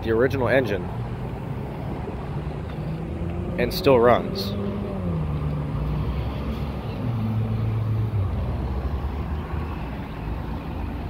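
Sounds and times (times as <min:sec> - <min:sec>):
motor vehicle engine rumbling: 0:00.0 - 0:11.0.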